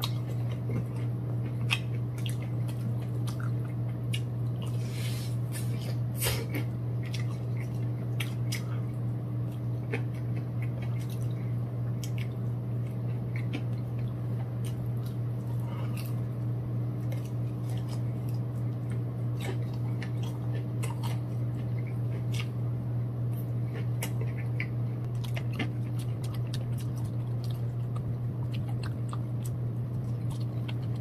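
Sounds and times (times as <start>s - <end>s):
chewing with wet smacking: 0.0s - 4.8s, 5.5s - 16.4s, 17.0s - 22.6s, 23.3s - 31.0s
low hum: 0.0s - 31.0s.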